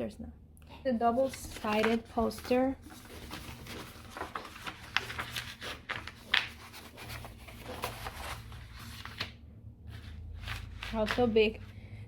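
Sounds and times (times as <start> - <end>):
paper poster rustling: 1.1 - 11.6
paper crackles: 1.2 - 11.4.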